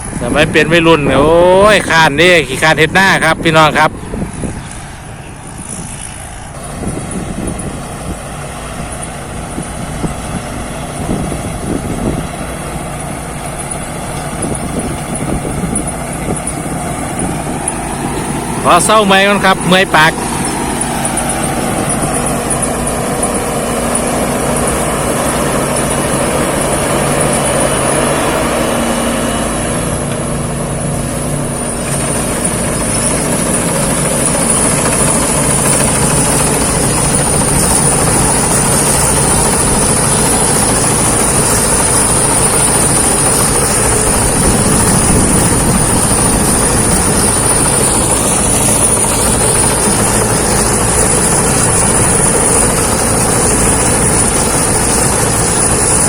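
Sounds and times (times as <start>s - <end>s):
combine harvester engine drone: 0.0s - 56.0s
high whine: 0.0s - 56.0s.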